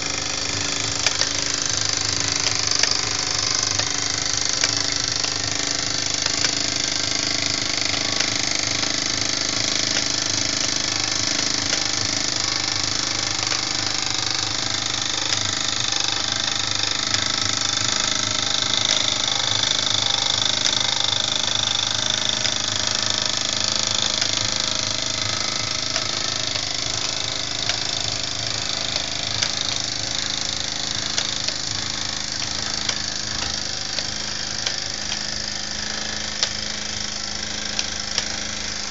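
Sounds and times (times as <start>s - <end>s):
model steam engine chuffing: 0.0s - 38.9s
pulleys whirring: 0.0s - 38.9s.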